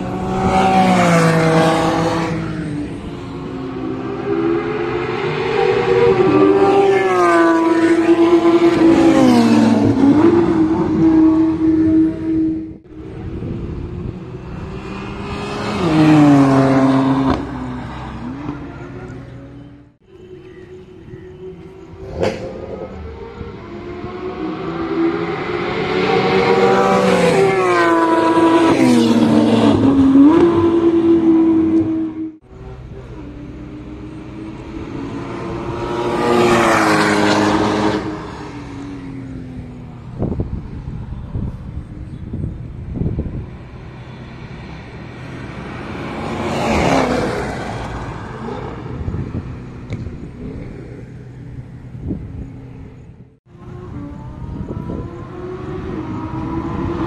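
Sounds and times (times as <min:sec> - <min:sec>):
race car engine passing: 0:00.0 - 0:19.9, 0:21.8 - 0:57.0.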